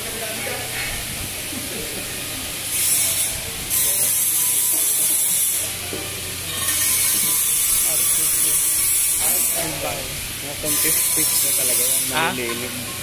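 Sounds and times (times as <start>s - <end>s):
welding arc hissing and sizzling: 0.2s - 13.0s.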